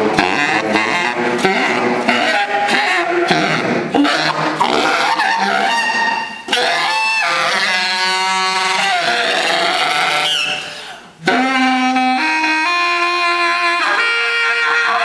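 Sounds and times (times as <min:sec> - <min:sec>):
baritone saxophone low notes: 0:00.0 - 0:15.0.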